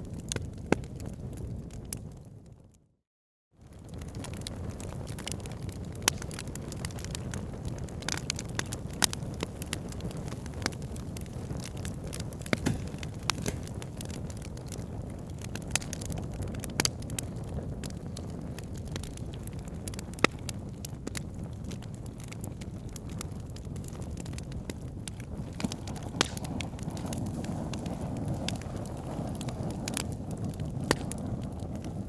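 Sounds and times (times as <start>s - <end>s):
wood fire crackling: 3.6s - 32.0s.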